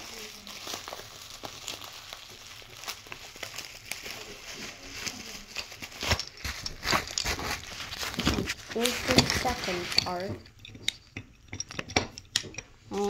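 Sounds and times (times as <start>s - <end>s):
packaging crinkling and clicking: 0.0s - 12.7s.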